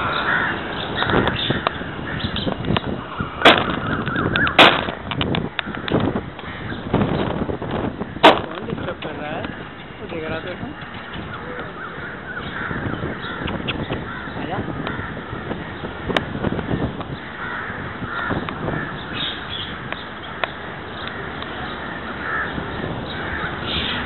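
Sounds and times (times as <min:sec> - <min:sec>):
busy background noise: 0:00.0 - 0:24.0
harsh cawing bird calls: 0:00.0 - 0:24.0.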